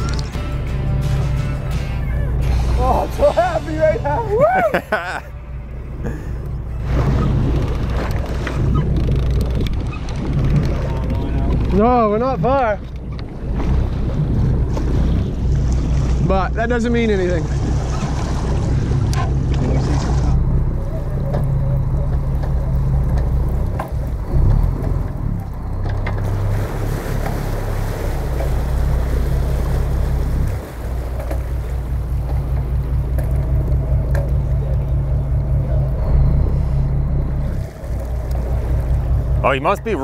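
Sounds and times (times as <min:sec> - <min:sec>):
boat engine rumbling: 0:00.0 - 0:40.0.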